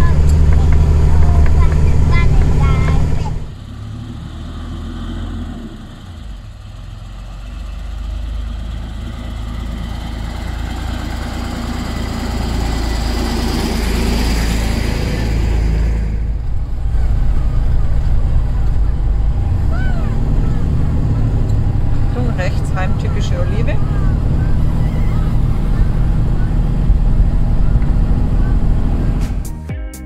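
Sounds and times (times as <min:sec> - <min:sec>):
engine drone inside cab: 0:00.0 - 0:29.5
diesel truck engine: 0:00.0 - 0:29.7.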